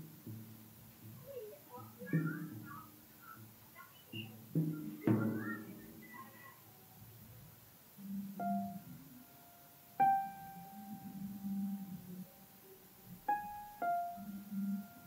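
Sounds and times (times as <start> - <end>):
free-form jazz piano: 0.0 - 15.0.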